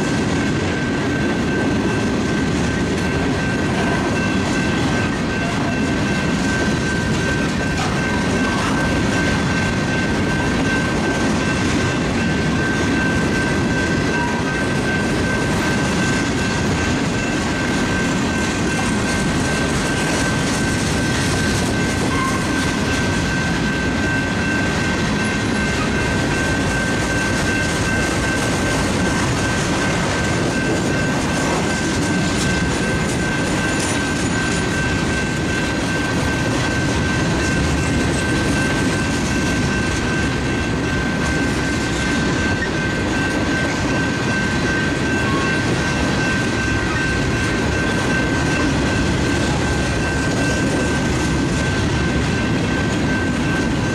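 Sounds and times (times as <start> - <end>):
train wheels rumbling on rail: 0.0 - 53.9
high-pitched tone: 0.2 - 53.9.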